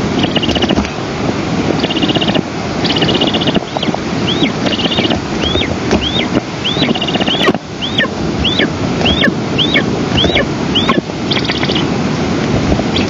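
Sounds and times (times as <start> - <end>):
wind on microphone: 0.0 - 13.0
buzzy bird trills: 0.2 - 0.8, 1.8 - 11.9
eagle chick begging calls: 0.2 - 0.9, 1.8 - 11.9.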